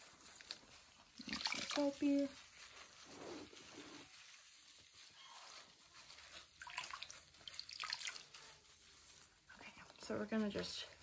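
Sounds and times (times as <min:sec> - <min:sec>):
washcloth squishing with soap: 0:00.0 - 0:11.0.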